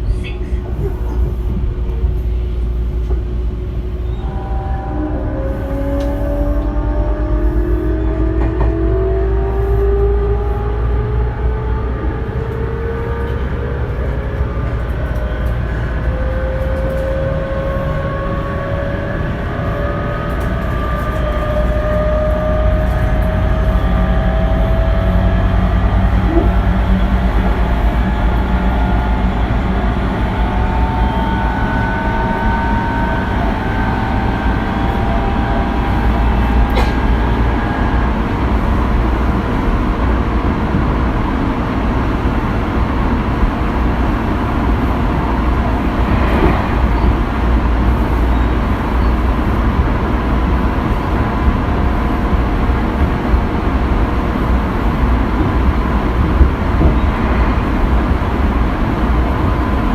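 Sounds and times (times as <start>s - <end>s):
train clatters: 0.0s - 4.2s, 5.6s - 9.9s, 12.2s - 59.9s
train wheels rumbling on rail: 0.0s - 59.9s.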